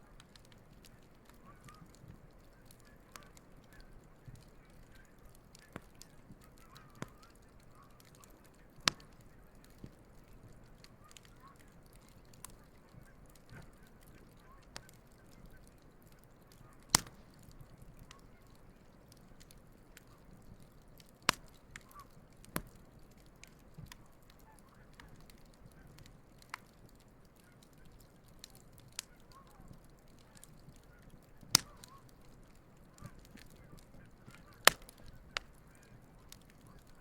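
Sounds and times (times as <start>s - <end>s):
campfire crackling and popping: 0.0s - 37.0s
faint geese honking: 0.0s - 37.0s.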